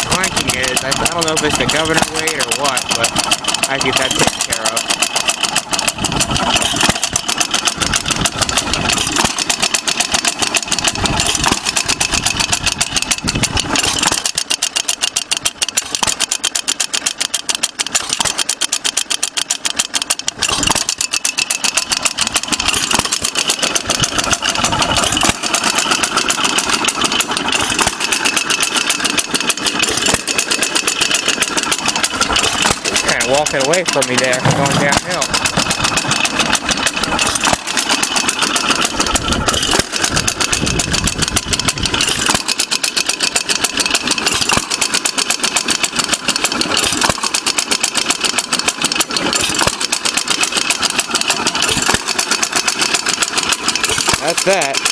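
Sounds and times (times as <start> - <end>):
old engine ticking and clanking: 0.0 - 54.9.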